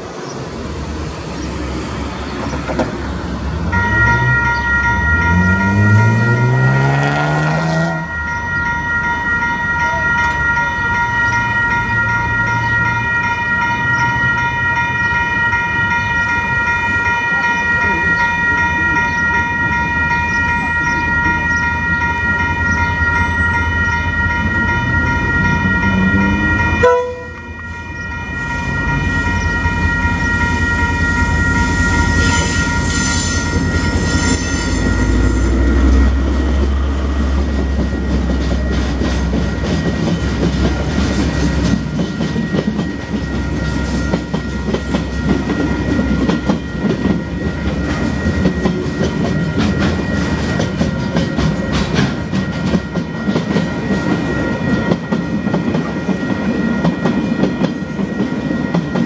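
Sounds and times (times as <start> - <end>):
diesel locomotive: 0.0 - 59.0
train wheels clattering on rails: 2.0 - 59.0
level crossing bells ringing: 3.6 - 59.0.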